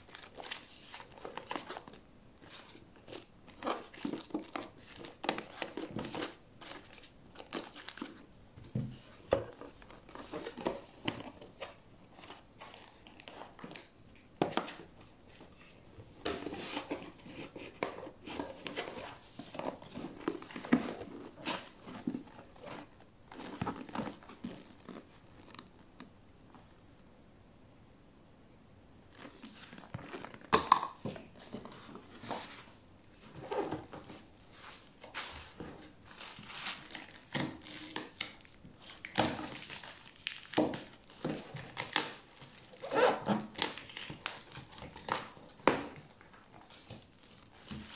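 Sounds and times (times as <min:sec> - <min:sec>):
plastic wrapping crinkling: 0:00.0 - 0:08.3, 0:09.1 - 0:26.0, 0:29.1 - 0:47.9.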